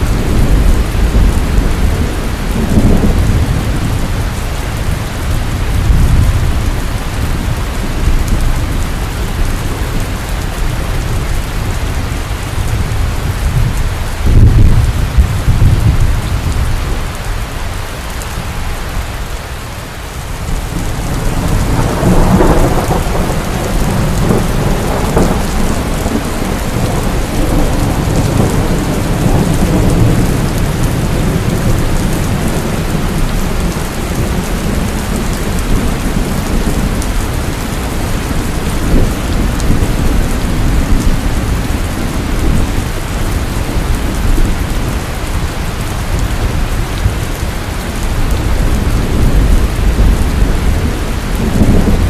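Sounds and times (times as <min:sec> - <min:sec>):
thunder rumble: 0:00.0 - 0:17.5, 0:20.2 - 0:52.0
heavy rain falling: 0:00.0 - 0:52.0.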